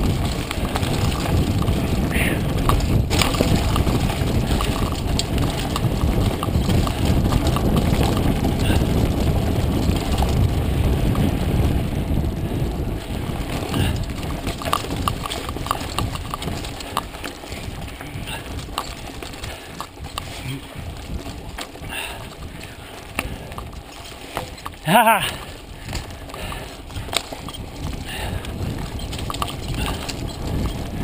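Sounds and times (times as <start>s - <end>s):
bike clattering over bumps: 0.0s - 31.0s
wind and tyres on dirt: 0.0s - 31.0s.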